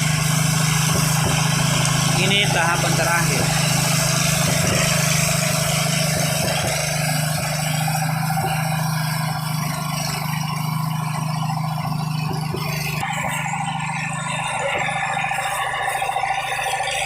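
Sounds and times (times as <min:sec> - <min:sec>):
air compressor engine running: 0:00.0 - 0:17.0
air hissing: 0:00.0 - 0:17.0.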